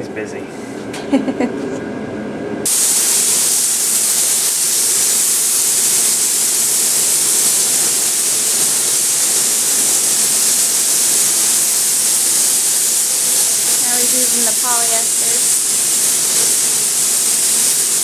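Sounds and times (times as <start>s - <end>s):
spray gun hissing: 2.7s - 18.0s.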